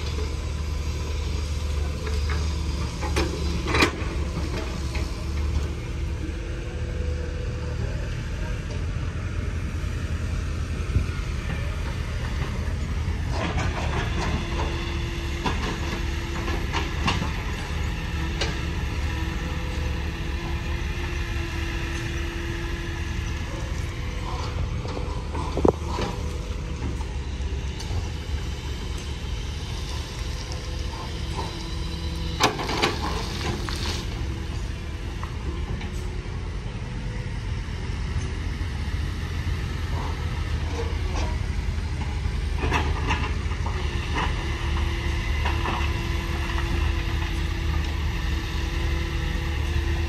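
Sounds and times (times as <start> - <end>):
heavy diesel machinery rumbling: 0.0 - 50.0
machinery whine: 0.0 - 50.0.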